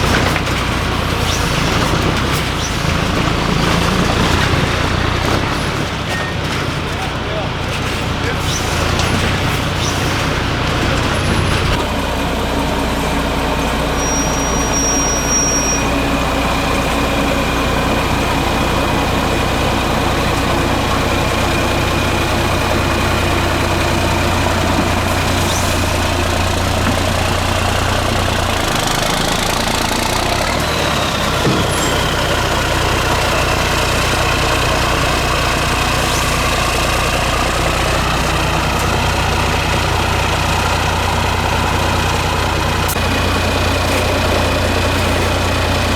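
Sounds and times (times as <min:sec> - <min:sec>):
truck diesel engine running: 0:00.0 - 0:45.9.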